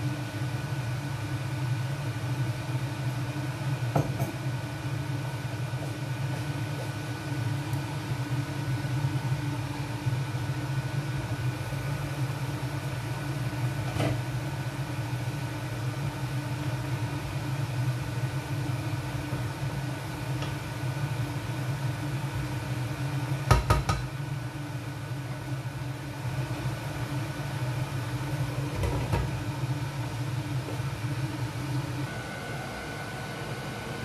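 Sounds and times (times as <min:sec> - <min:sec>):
faint steady whine: 0:00.0 - 0:34.0
kitchen appliance humming: 0:00.0 - 0:34.0.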